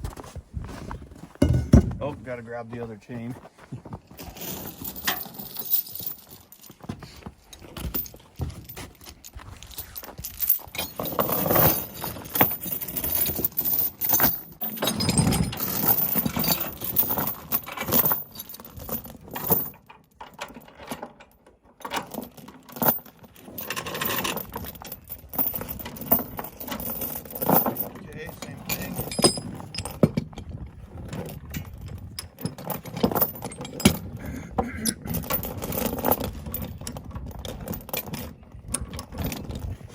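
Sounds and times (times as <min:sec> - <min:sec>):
metal chain rattling and clinking: 0:04.1 - 0:39.9.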